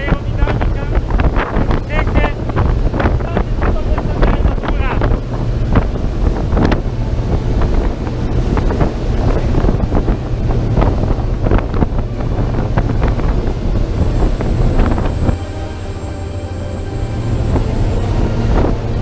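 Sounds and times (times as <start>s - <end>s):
boat engine rumble: 0.0s - 19.0s
wind buffeting microphone: 0.0s - 19.0s.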